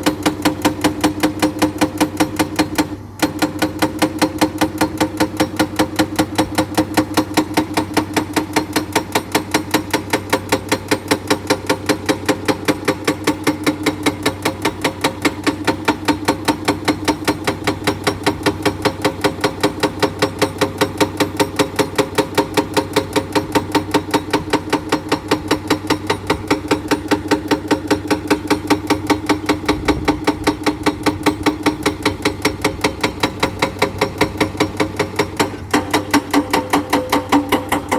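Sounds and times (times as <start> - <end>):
excavator engine running: 0.0 - 37.9
hydraulic breaker hammer pounding rock: 0.0 - 37.9.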